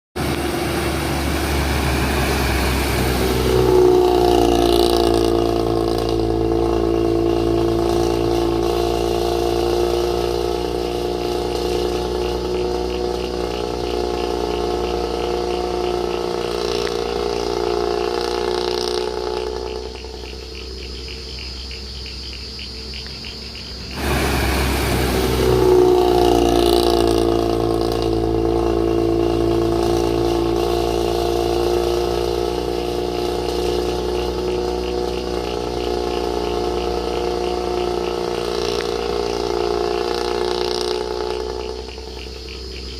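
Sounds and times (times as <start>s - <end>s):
bus diesel engine snoring exhaust: 0.2s - 42.9s.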